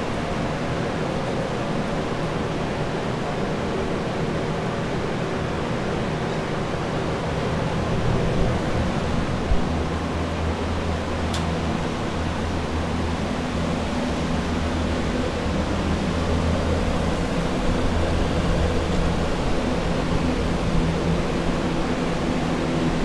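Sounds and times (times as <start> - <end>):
dehumidifiers and air mover rushing: 0.0 - 23.0.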